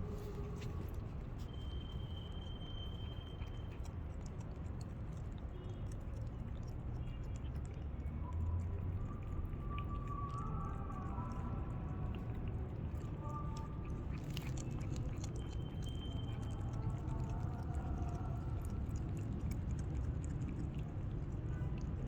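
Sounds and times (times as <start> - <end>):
cat chewing food: 2.9 - 22.0.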